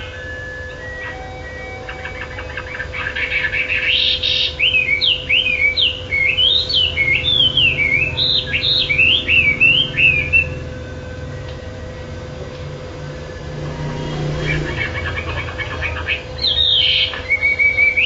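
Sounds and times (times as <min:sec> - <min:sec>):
songbird whistling: 0:00.0 - 0:11.6, 0:12.6 - 0:18.0
steady low hum: 0:00.0 - 0:18.0.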